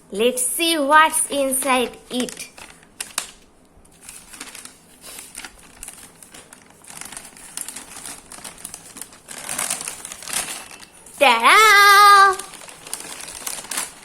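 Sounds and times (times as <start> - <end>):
food packaging crinkling: 1.4 - 14.0.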